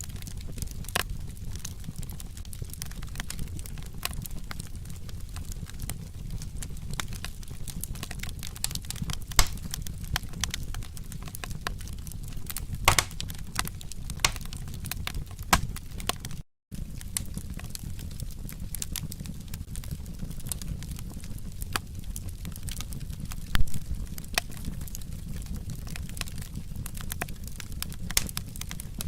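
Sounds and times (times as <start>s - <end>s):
fire crackling and popping: 0.0s - 29.0s
low rumble of flames: 0.0s - 29.0s.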